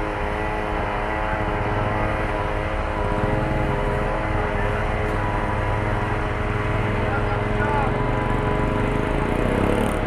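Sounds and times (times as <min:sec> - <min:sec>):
fire truck engine running: 0:00.0 - 0:10.0.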